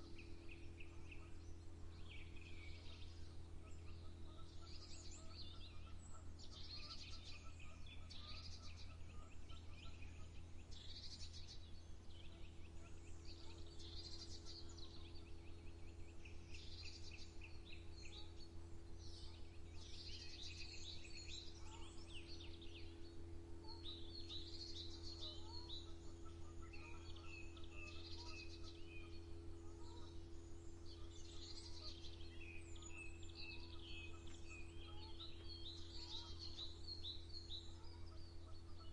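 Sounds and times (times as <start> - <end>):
songbirds chirping and trilling: 0.0 - 38.9
steady low hum: 0.0 - 38.9.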